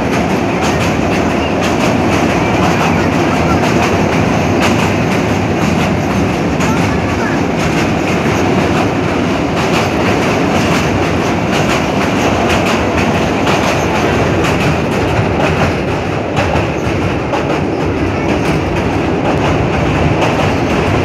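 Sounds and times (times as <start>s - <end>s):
train wheels rumbling on rail: 0.0s - 21.0s
wheels clicking over rail joints: 0.0s - 21.0s.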